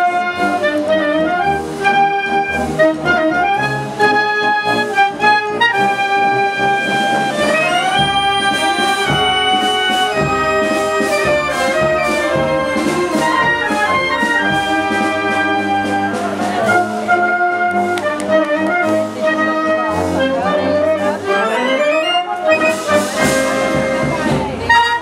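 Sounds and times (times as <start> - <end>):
wind band playing a march: 0.0 - 25.0.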